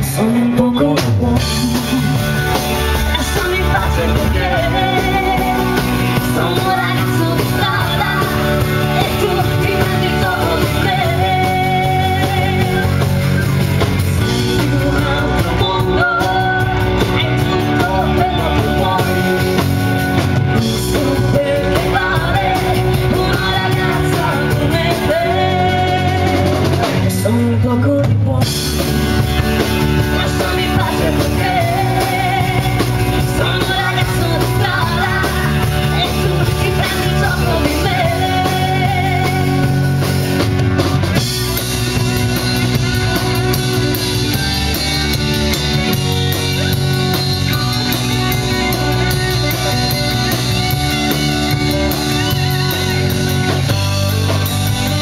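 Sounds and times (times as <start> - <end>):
bass guitar: 0.0 - 55.0
drum kit: 0.0 - 55.0
electric guitar: 0.0 - 55.0
woman singing lead: 0.0 - 55.0.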